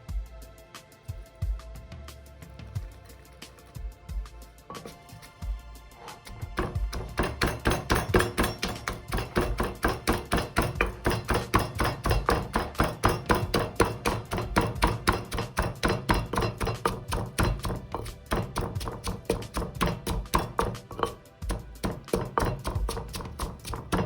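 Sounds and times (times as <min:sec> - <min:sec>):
pestle pounding in a mortar: 0:02.6 - 0:24.0.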